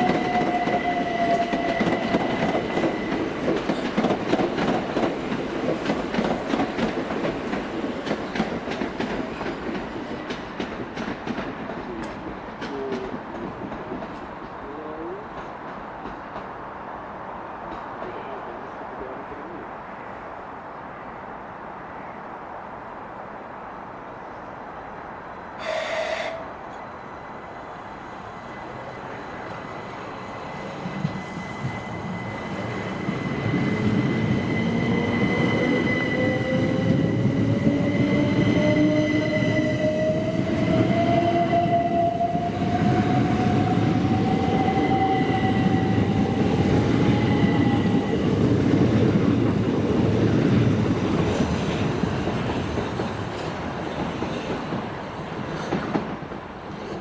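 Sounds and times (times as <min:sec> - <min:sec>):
train passing loudly: 0:00.0 - 0:57.0.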